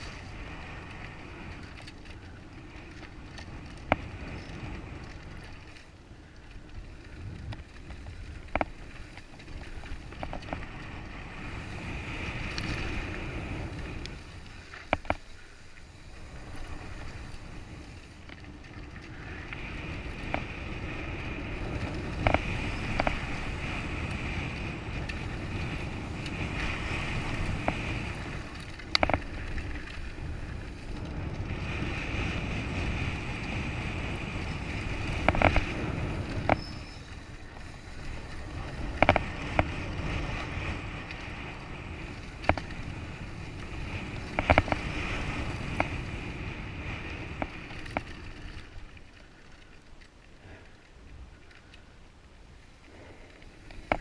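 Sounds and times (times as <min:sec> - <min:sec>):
bike clattering over bumps: 0:00.0 - 0:33.6, 0:34.2 - 0:41.4, 0:42.0 - 0:46.3
wind and tyre noise: 0:00.0 - 0:54.0.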